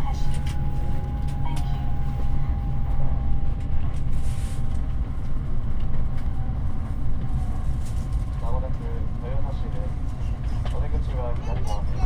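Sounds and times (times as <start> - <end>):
train interior rumble: 0.0 - 12.0.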